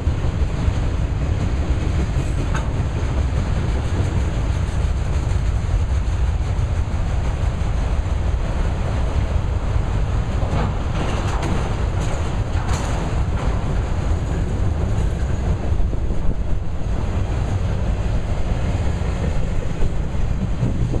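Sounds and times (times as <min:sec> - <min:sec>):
train wheels clattering on rails: 0:00.0 - 0:21.0
wind rumble on microphone: 0:00.0 - 0:21.0.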